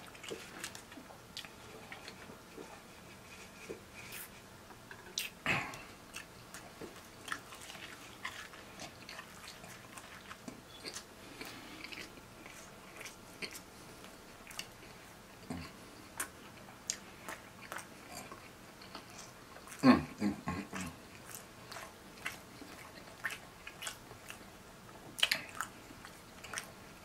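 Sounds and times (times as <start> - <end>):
chewing and mouth smacks: 0.0 - 2.8, 4.9 - 19.8, 20.6 - 24.5, 25.1 - 26.8.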